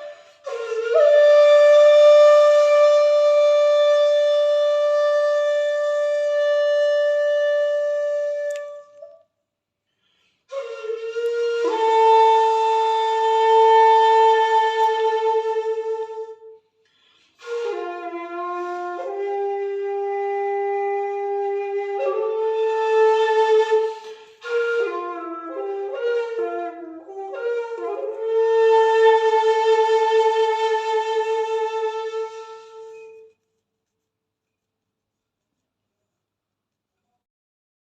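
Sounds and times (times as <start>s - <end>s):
shakuhachi flute long notes: 0.0s - 9.3s, 10.2s - 33.5s.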